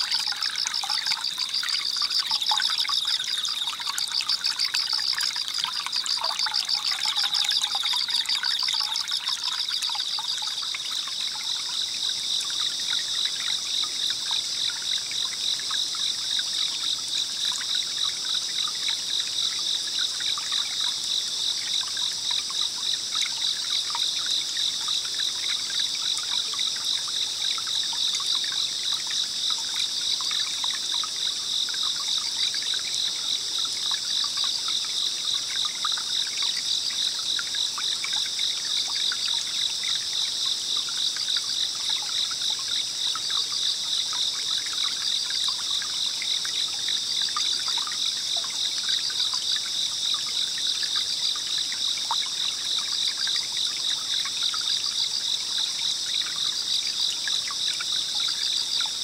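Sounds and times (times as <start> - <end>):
insects chirring high-pitched: 0.0 - 59.0
stream water trickling: 0.0 - 59.0.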